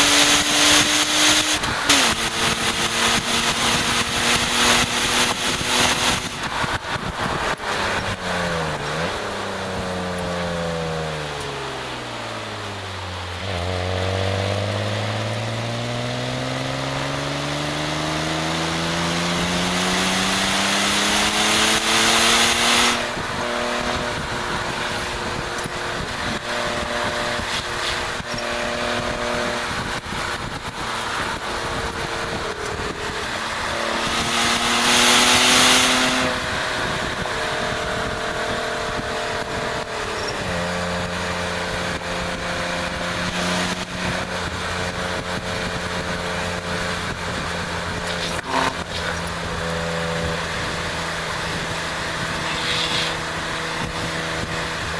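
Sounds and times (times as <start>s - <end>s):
car engine accelerating: 0.0s - 54.9s
wind rushing over microphone: 0.0s - 54.9s.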